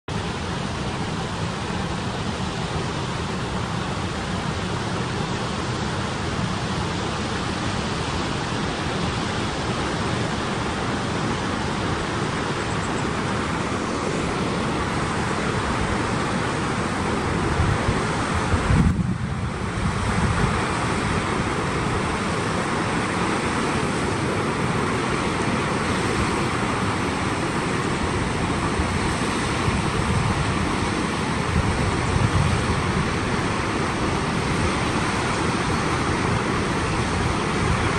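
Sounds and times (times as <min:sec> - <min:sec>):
creek water rushing over rocks: 0:00.1 - 0:37.9
wind buffeting microphone: 0:00.2 - 0:37.9.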